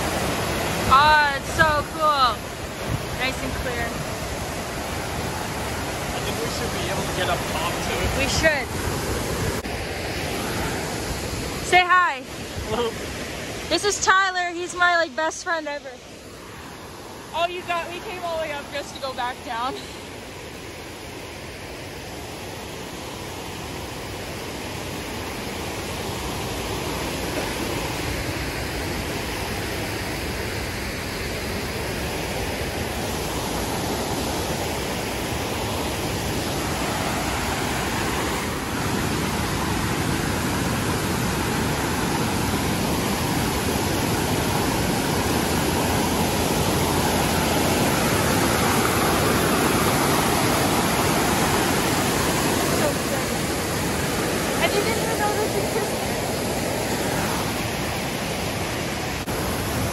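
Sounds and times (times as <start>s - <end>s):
river water rushing over rock: 0.0s - 59.9s.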